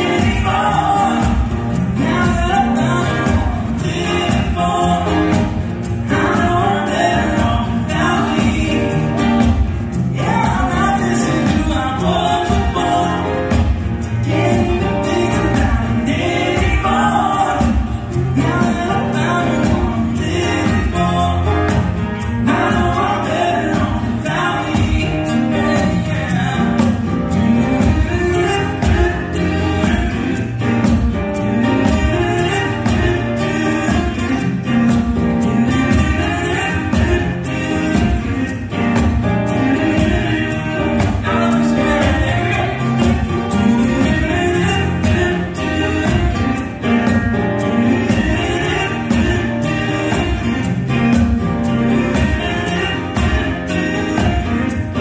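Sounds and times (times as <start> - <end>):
acoustic guitars strummed: 0.0 - 55.0
person singing: 0.0 - 55.0.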